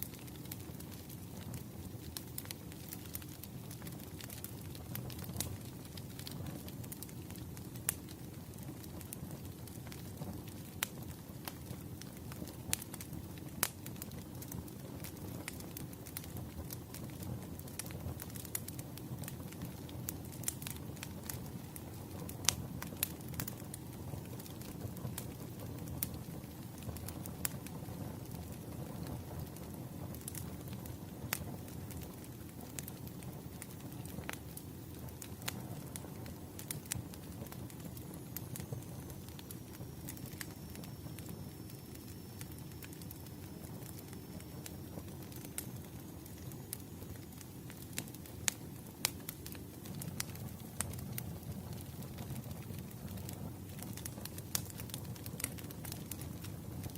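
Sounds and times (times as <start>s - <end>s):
firewood crackling and popping: 0.0s - 56.9s
fire rushing: 0.1s - 56.9s.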